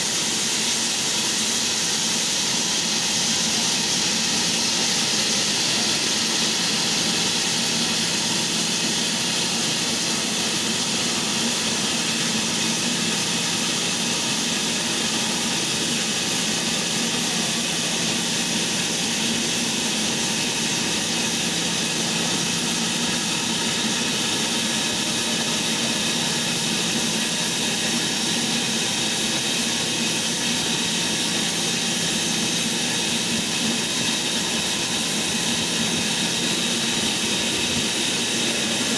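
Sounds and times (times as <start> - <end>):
electric saw whining: 0.0 - 38.9.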